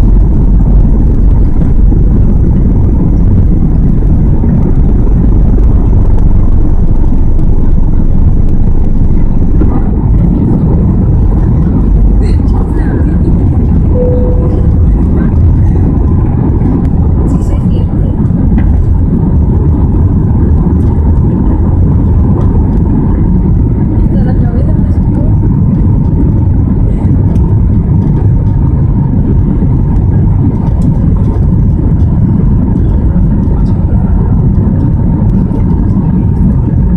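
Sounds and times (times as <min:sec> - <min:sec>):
airplane cabin engine rumble: 0:00.0 - 0:36.9
faint steady whine: 0:00.0 - 0:36.9.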